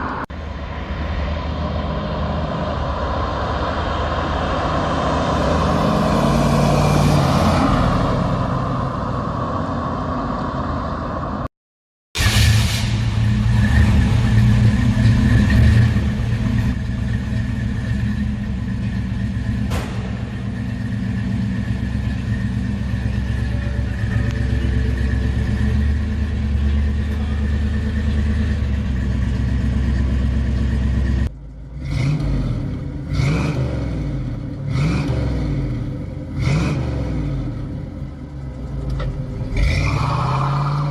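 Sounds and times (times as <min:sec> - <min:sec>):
car engine idling and revving: 0:00.0 - 0:11.5, 0:12.2 - 0:40.9.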